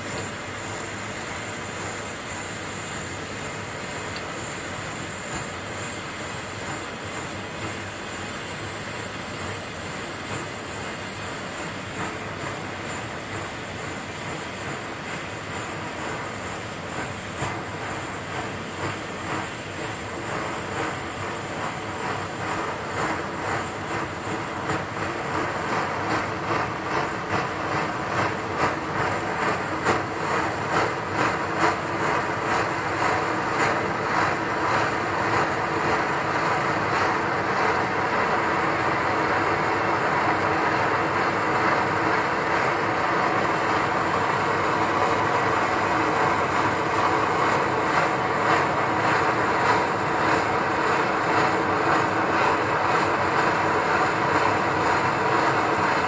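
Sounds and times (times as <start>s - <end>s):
camping stove burner rushing: 0.0s - 56.0s.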